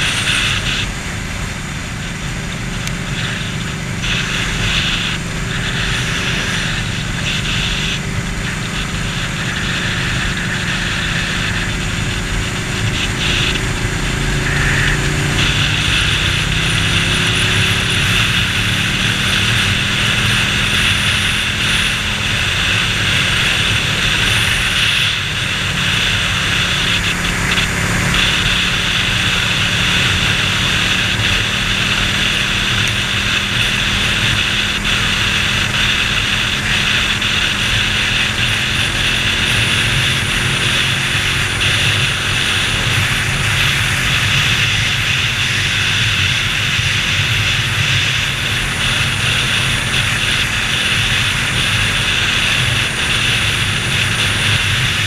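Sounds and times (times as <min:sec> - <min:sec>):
motorcycle engine accelerating: 0:00.0 - 0:55.0
wind rush on microphone: 0:00.0 - 0:55.0.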